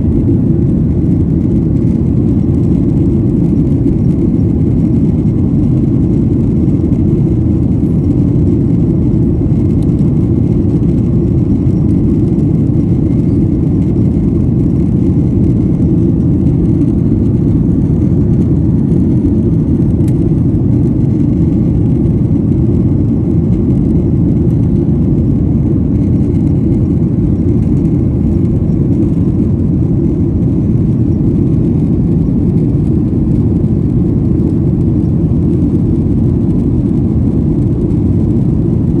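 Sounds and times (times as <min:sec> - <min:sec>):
jet cabin engine roar: 0:00.0 - 0:39.0.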